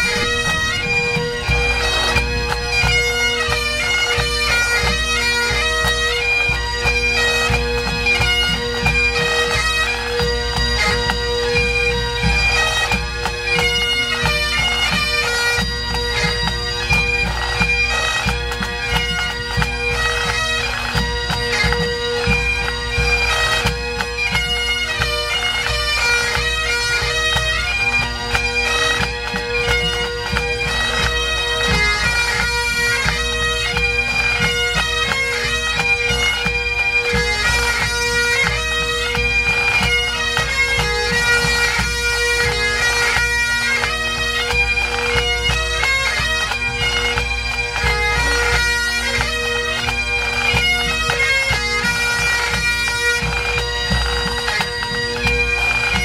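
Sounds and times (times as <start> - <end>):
bagpipes playing melody: 0.0 - 56.0.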